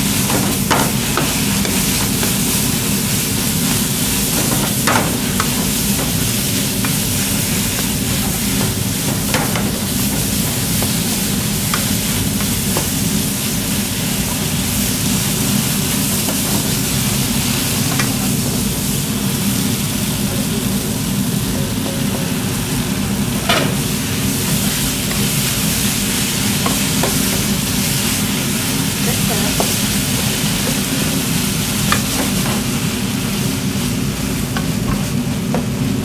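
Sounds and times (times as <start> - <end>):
chicken sizzling in a pan: 0.0 - 36.0
steady low hum: 0.0 - 36.0.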